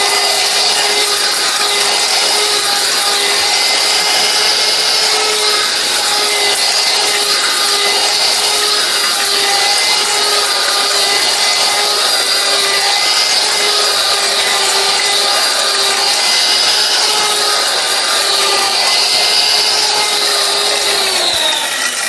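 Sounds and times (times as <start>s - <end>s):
mixer grinder motor whining: 0.0s - 22.0s.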